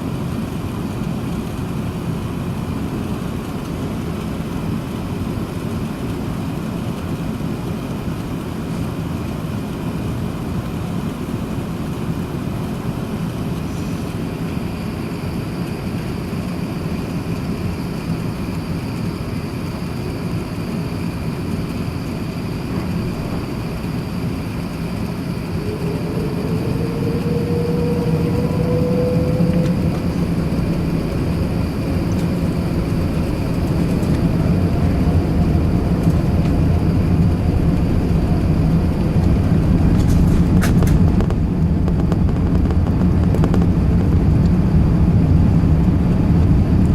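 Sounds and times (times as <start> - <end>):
engine rumble and hiss in cabin: 0.0 - 46.9
jet engine whine: 0.0 - 46.9.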